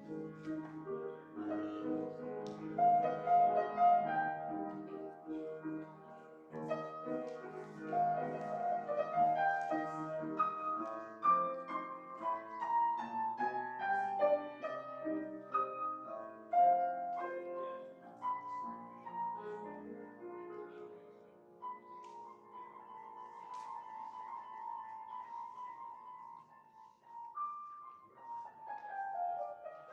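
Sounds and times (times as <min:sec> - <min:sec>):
slow solo piano piece: 0:00.0 - 0:29.9.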